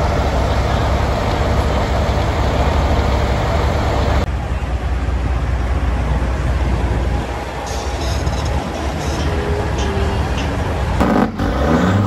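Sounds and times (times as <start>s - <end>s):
diesel engines rumbling: 0.0s - 12.0s.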